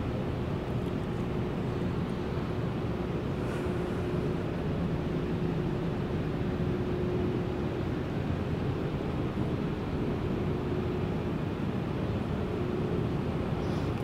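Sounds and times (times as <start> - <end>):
faint constant hum: 0.0 - 14.0
low building rumble: 0.0 - 14.0.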